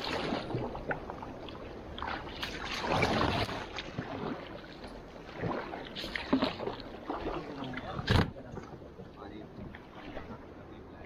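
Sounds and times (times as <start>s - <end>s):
paddle splashing in river water: 0.0s - 11.0s.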